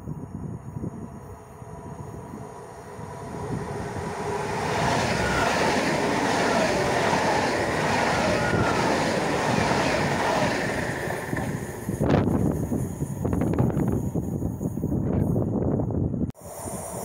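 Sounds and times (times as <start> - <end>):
train passing at speed: 0.0 - 15.6.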